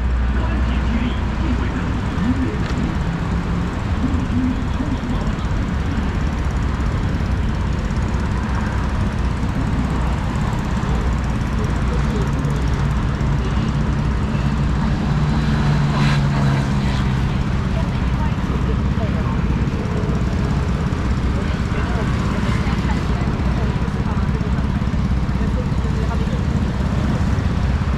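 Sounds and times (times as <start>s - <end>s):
city street traffic rumble: 0.0s - 27.9s
vehicle engine hum: 0.0s - 27.9s.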